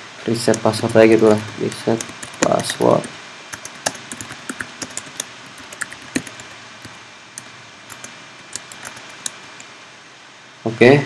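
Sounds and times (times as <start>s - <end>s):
computer keyboard typing: 0.3s - 9.7s.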